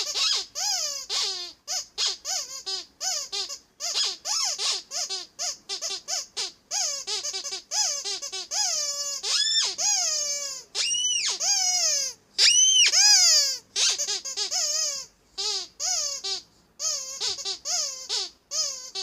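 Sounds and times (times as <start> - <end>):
rubber squeaky duck toy squeaking: 0.0 - 19.0.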